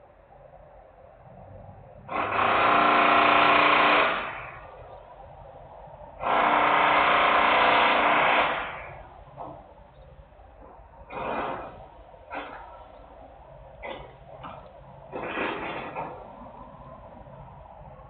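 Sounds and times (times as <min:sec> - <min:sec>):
machinery mechanical whine: 0:00.0 - 0:18.0.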